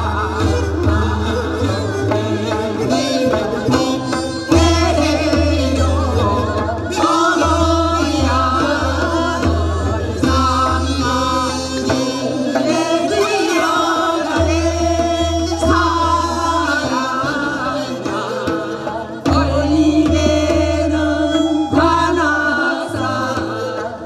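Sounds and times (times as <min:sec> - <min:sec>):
instrumental accompaniment: 0:00.0 - 0:24.0
woman singing into a microphone: 0:00.0 - 0:24.0.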